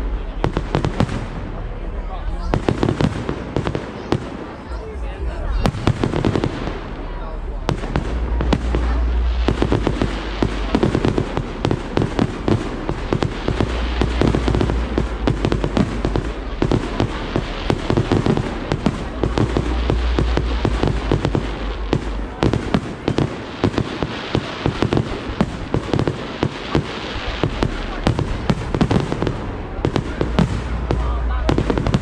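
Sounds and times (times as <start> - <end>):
low rumble: 0.0 - 3.6, 4.7 - 23.6, 27.1 - 32.0
fireworks bangs and crackles: 0.0 - 32.0.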